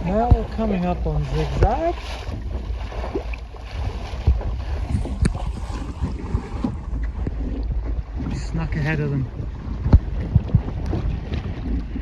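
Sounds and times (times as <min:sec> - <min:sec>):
water washing past hull: 0:00.0 - 0:12.0
wind buffeting microphone: 0:00.0 - 0:12.0.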